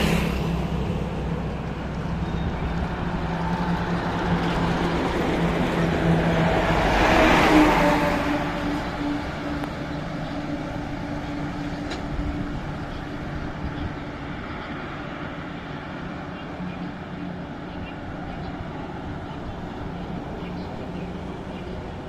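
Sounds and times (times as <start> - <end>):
heavy trucks passing on highway: 0.0 - 22.0.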